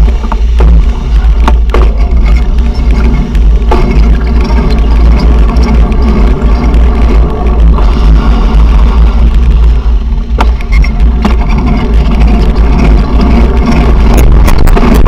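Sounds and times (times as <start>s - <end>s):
clicks and rattles: 0.0s - 15.0s
wind rumbling on microphone: 0.0s - 15.0s.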